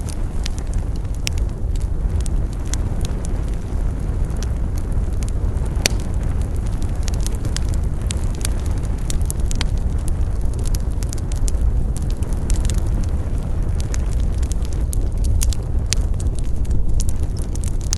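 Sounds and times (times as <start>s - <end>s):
campfire crackling and popping: 0.0s - 17.9s.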